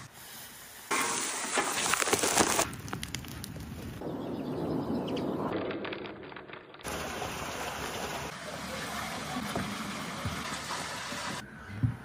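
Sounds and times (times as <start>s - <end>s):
fire crackling: 0.0s - 11.4s.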